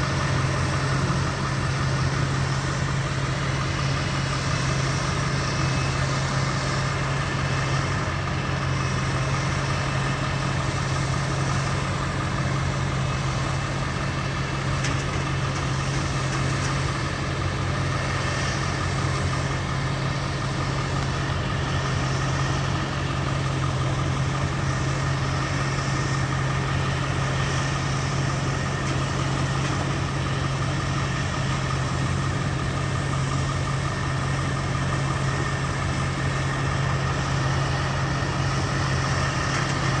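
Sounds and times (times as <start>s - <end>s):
harvest machinery engine running: 0.0s - 40.0s.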